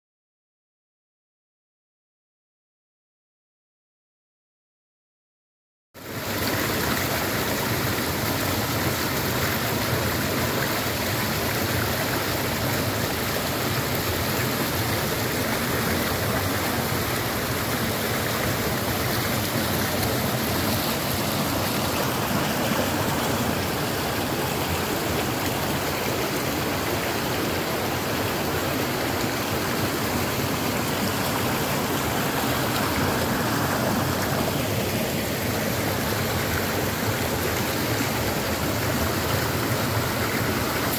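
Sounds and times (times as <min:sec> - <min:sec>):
stream rushing over boulders: 0:06.0 - 0:40.9.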